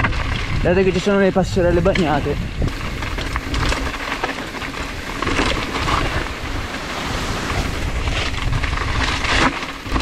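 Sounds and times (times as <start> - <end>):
wind rushing over microphone: 0.0 - 4.0, 4.7 - 10.0
bike rolling over trail: 0.0 - 10.0.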